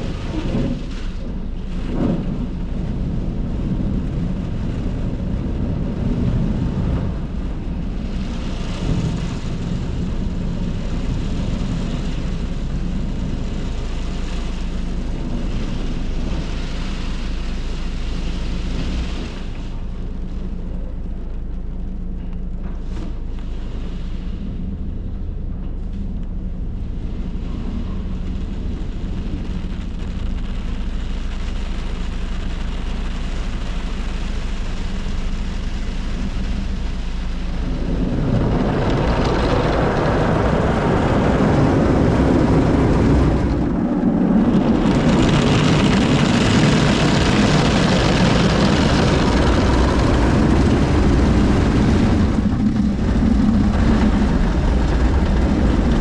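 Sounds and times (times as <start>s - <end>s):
water spray on car body: 0.0s - 22.0s, 26.9s - 56.0s
low steady hum: 0.0s - 56.0s.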